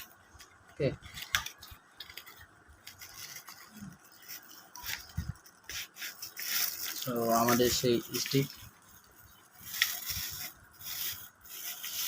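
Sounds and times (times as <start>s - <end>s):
packaging clicks scrapes and rustles: 0.3s - 8.6s, 9.6s - 12.0s.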